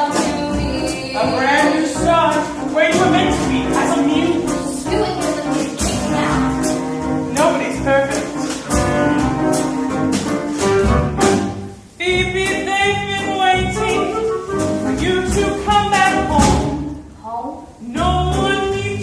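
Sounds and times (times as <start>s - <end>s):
drums steady beat: 0.0s - 19.0s
jazzy pit band playing: 0.0s - 19.0s.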